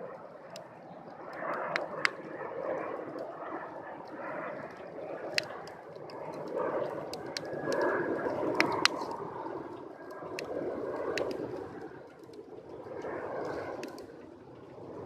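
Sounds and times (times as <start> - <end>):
burning wood crackling and popping: 0.0 - 15.0.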